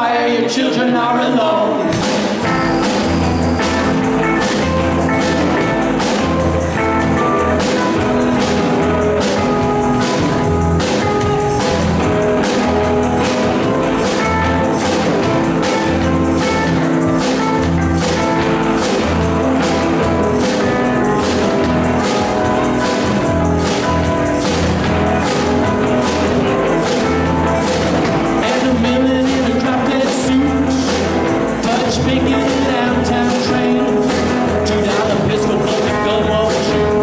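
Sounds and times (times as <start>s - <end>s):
electric guitar: 0.0s - 37.0s
keyboard: 0.0s - 37.0s
drum kit beat: 1.9s - 37.0s
electric upright bass: 1.9s - 37.0s.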